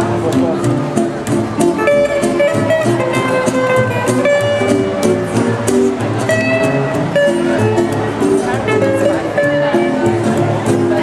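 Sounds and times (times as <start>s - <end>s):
guitar picking melody: 0.0s - 11.0s
guitar strumming: 0.0s - 11.0s
walking double bass line: 0.0s - 11.0s.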